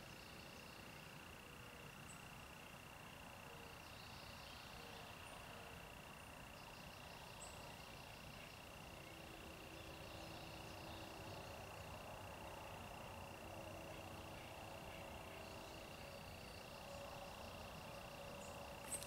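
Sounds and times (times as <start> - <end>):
faint bird chirps: 0.0 - 19.0
high-pitched insect drone: 0.0 - 19.0.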